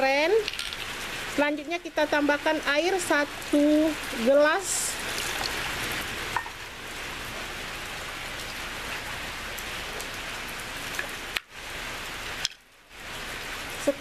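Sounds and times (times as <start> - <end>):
splashing falling water: 0.0 - 14.0.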